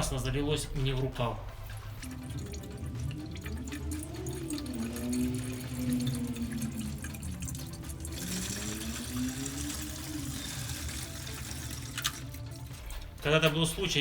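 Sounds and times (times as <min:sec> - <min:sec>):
fluid pouring into container: 0:00.7 - 0:13.4.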